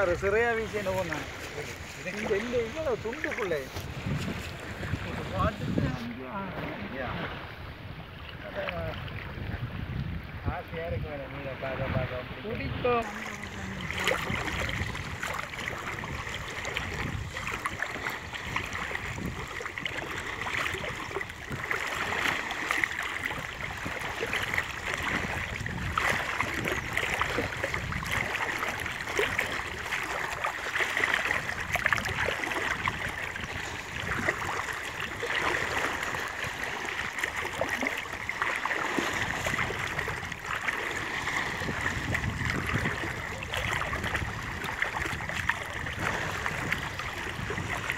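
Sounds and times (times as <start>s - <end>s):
water splashing around wading legs: 0.0s - 10.2s, 11.6s - 47.9s.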